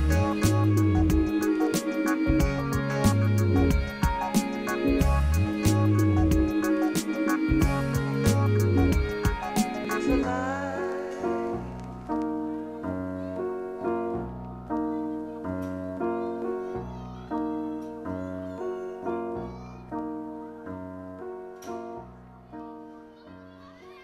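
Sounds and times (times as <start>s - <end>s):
piano-like keyboard notes: 0.0s - 24.0s.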